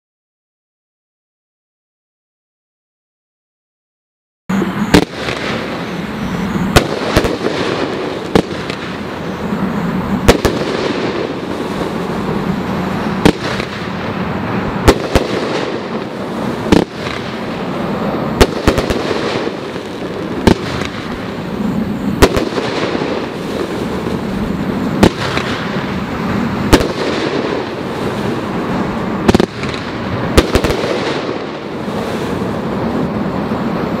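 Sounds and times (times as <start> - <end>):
firework bangs: 4.5 - 34.0
firework crackle: 4.5 - 34.0.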